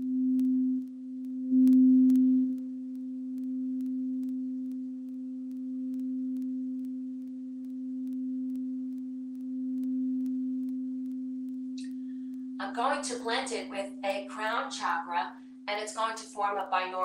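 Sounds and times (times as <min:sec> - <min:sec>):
singing bowl tone: 0:00.0 - 0:17.0.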